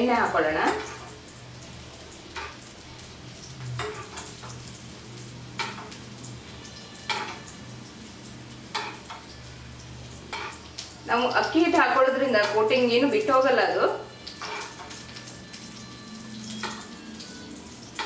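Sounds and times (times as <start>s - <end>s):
fish sizzling in a pan: 0.0s - 18.0s
oil drizzled sizzles: 0.0s - 18.0s.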